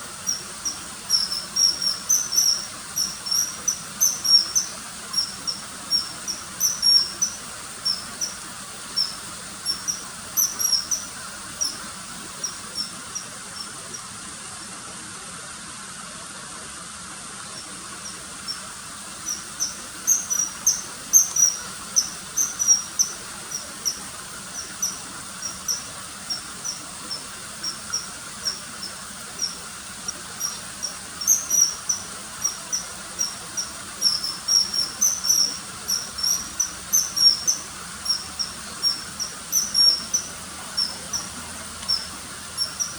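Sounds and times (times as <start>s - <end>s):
kingfisher calls: 0.0s - 14.0s, 17.6s - 42.9s.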